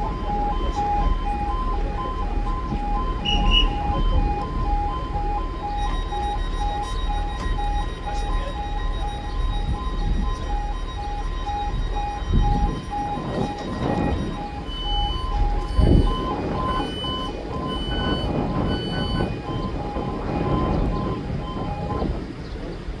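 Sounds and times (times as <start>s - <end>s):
high beeping: 0.0s - 22.1s
level crossing alarm two-tone: 0.0s - 22.2s.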